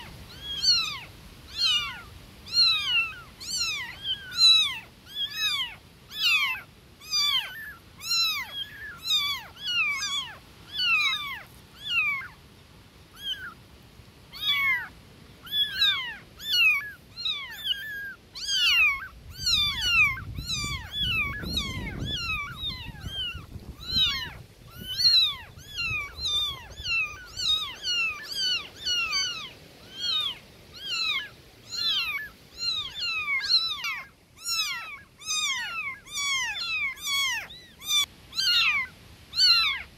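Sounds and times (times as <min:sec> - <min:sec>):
kittens meowing: 0:00.0 - 0:12.5, 0:13.1 - 0:13.6, 0:14.2 - 0:39.9.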